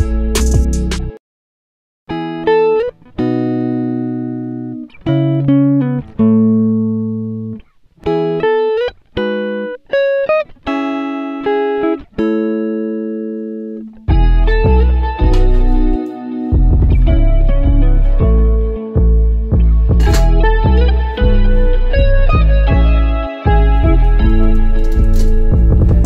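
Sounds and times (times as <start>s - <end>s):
solo guitar slow melody: 2.1s - 26.0s.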